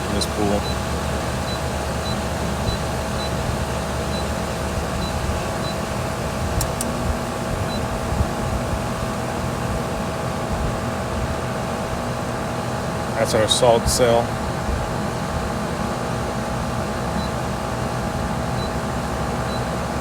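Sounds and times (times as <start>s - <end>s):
pool pump motor humming: 0.0s - 20.0s
steady motor whine: 0.0s - 20.0s.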